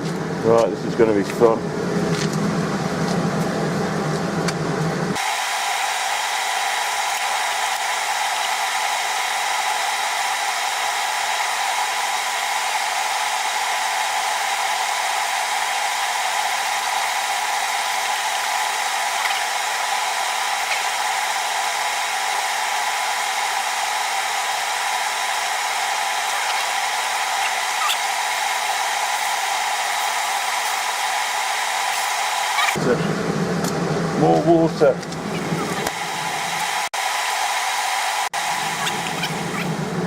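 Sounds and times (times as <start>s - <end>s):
heating equipment rushing hiss: 5.2s - 32.8s, 35.2s - 40.0s.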